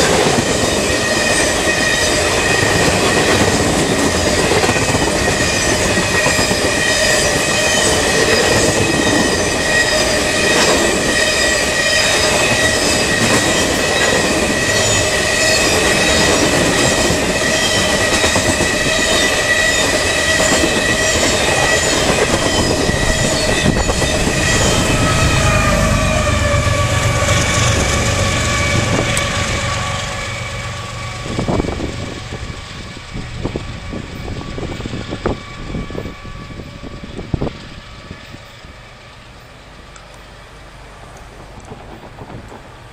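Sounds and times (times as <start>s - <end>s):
train wheels clacking on rails: 0.0s - 38.6s, 41.0s - 42.9s
high wheel squeal: 0.0s - 39.2s.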